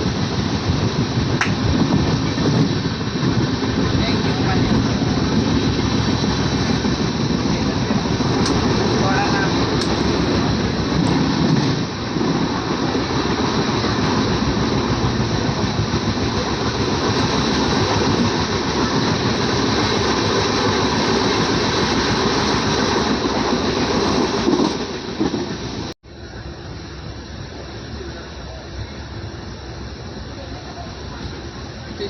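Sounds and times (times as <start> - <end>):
clickety-clack of rails: 0.0 - 26.0
train wheels rumbling on rails: 0.0 - 32.0.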